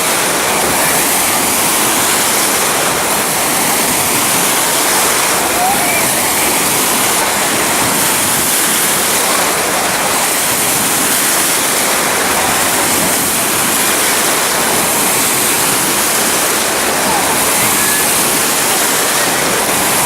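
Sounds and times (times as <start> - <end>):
rush of falling water: 0.0 - 20.0.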